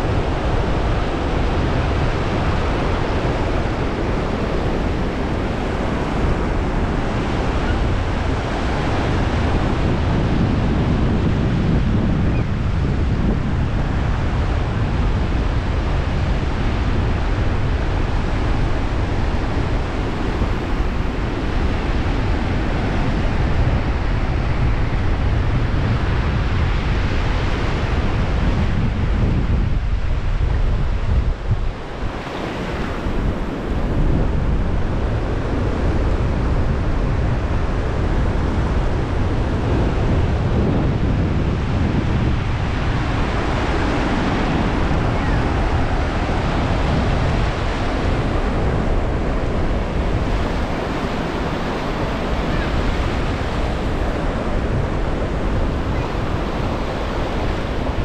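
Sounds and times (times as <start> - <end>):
ocean surf washing onto beach: 0.0 - 58.0
wind buffeting microphone: 0.0 - 58.0.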